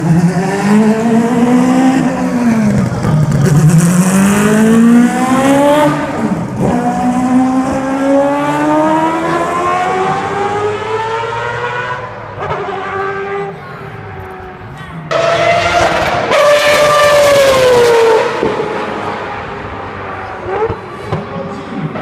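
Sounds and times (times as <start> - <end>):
rotary engine accelerating: 0.0 - 13.4, 15.1 - 20.8.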